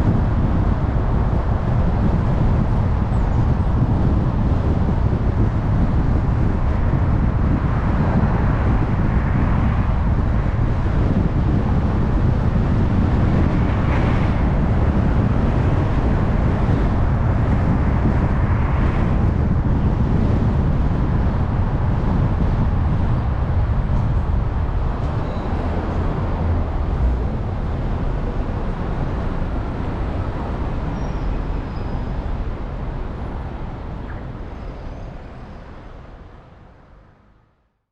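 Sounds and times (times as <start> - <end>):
vehicles passing: 0.0 - 37.7
car engine and tyre rumble: 0.0 - 37.8.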